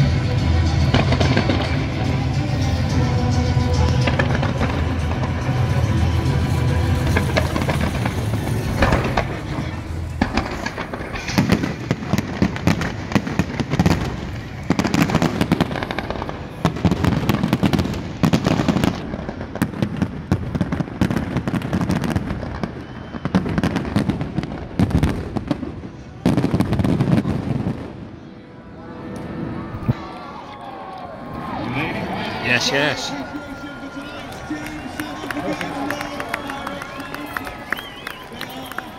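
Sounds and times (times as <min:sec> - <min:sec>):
fireworks bangs and crackling: 0:00.0 - 0:28.4, 0:31.5 - 0:38.9.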